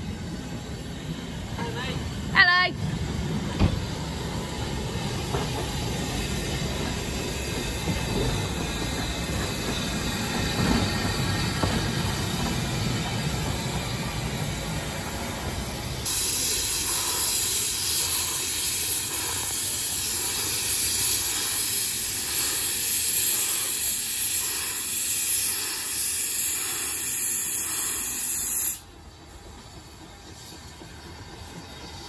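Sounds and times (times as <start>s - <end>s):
steam locomotive hissing: 0.0s - 32.0s.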